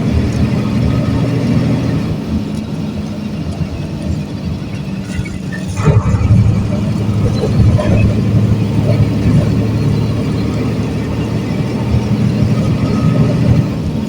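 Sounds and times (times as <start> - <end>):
diesel bus engine droning: 0.0 - 14.0.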